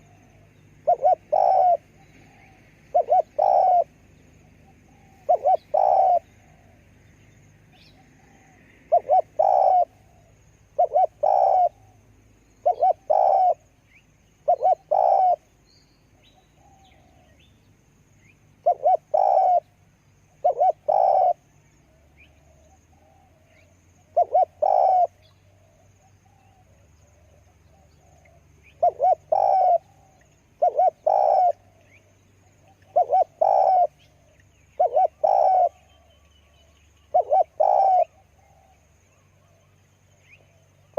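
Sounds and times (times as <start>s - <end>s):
dove cooing: 0.0s - 7.0s, 7.8s - 12.0s, 12.6s - 13.7s, 14.4s - 15.5s, 16.2s - 17.4s, 18.6s - 19.7s, 20.3s - 40.9s.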